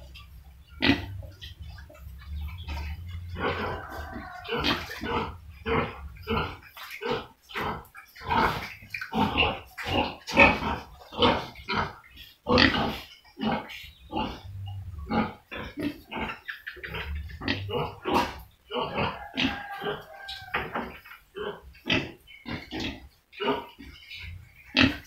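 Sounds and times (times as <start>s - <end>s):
pigs grunting: 0.0s - 25.0s.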